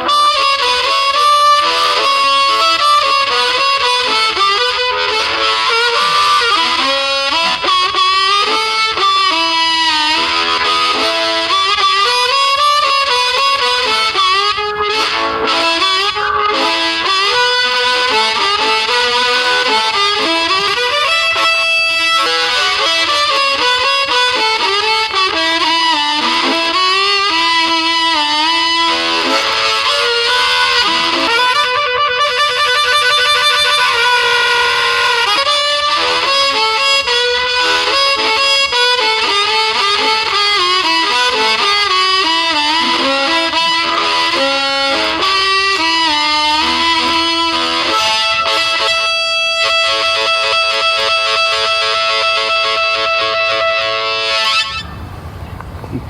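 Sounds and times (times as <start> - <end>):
harmonica melody: 0.0 - 55.6.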